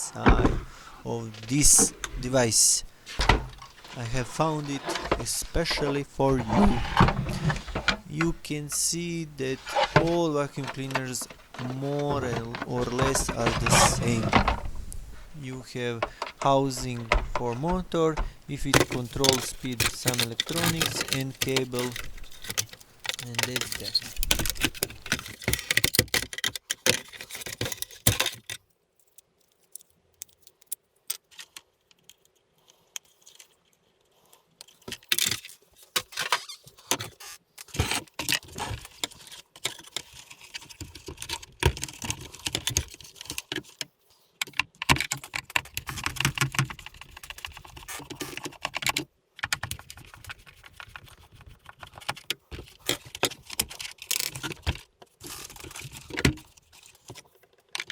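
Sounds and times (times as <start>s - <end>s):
small plastic parts rattling: 0.0s - 57.9s.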